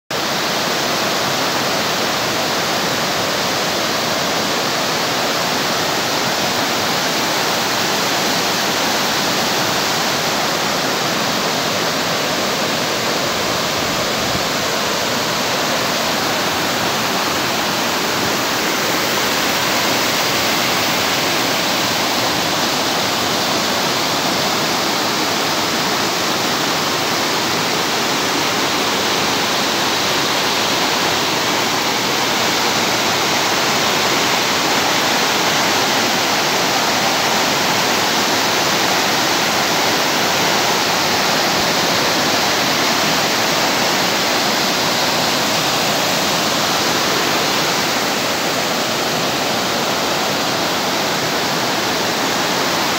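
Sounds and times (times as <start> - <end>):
waterfall rushing over rocks: 0.1 - 52.9.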